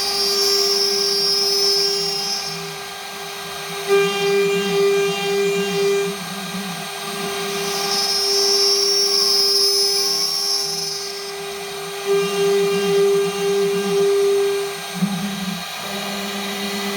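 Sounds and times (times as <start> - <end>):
router spindle whining: 0.0 - 16.9.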